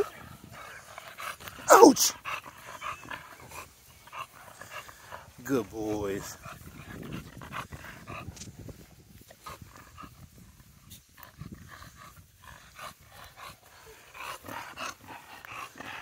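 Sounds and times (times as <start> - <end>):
dogs playing: 0.0 - 16.0.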